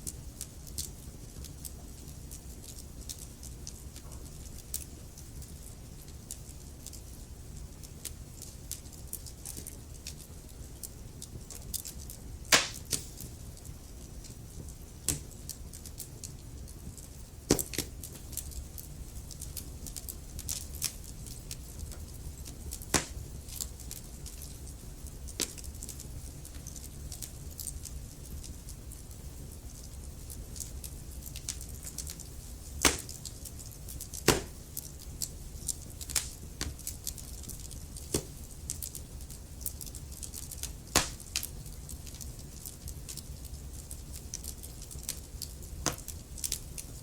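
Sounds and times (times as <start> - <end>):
logs burning and crackling: 0.0 - 47.0.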